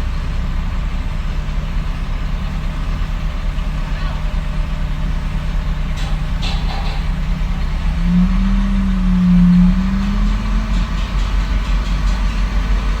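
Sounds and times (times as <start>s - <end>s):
heavy diesel engine revving: 0.0s - 13.0s.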